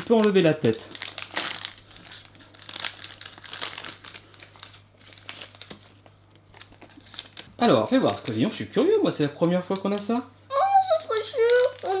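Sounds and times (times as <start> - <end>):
plastic pouch crinkling: 0.0 - 8.6, 10.8 - 12.0.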